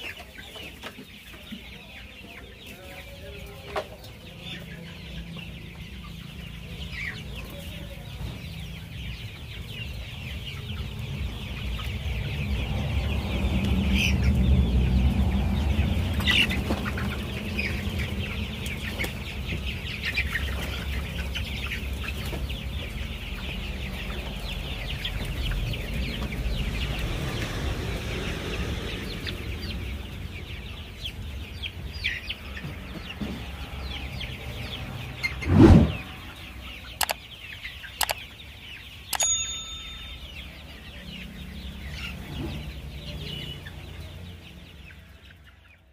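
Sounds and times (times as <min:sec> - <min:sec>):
chickens clucking and cheeping: 0:00.0 - 0:45.9.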